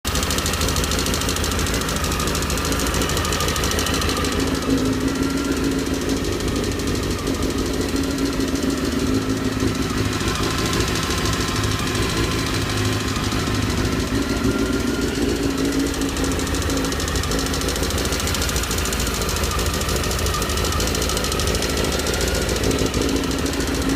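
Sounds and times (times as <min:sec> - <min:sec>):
motorcycle engine running: 0:00.0 - 0:23.9
rapid engine knocking: 0:00.0 - 0:23.9.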